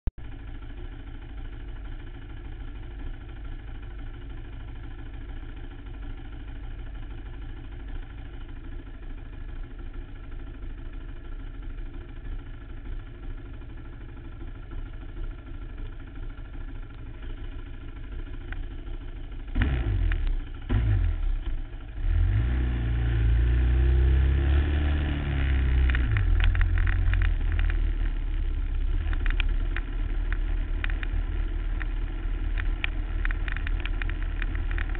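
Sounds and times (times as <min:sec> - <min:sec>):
quad engine idling and revving: 0:00.3 - 0:34.9.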